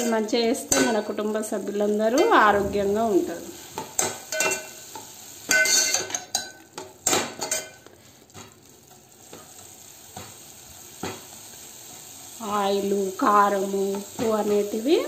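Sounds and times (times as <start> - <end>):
soft sizzle of frying: 0.0 - 15.0.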